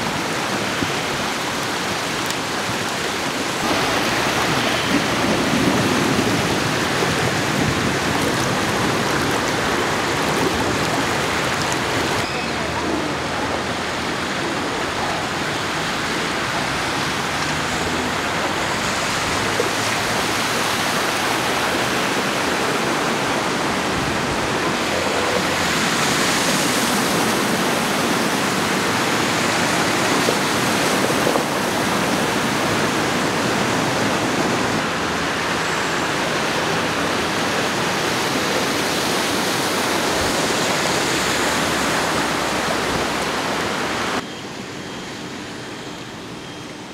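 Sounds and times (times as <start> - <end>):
floodwater rushing across street: 0.0 - 46.9.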